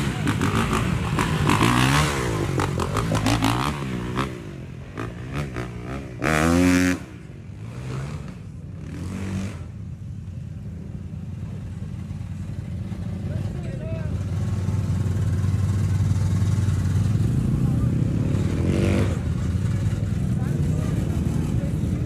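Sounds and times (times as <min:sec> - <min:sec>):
off-road engines revving: 0:00.0 - 0:22.0.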